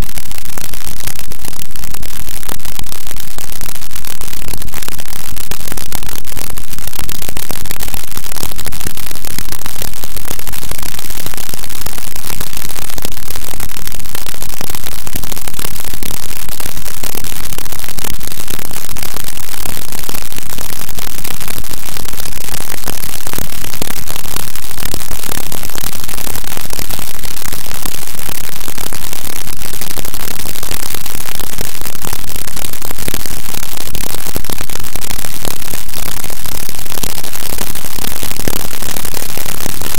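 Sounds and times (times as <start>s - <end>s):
distorted static noise music: 0.0s - 39.9s.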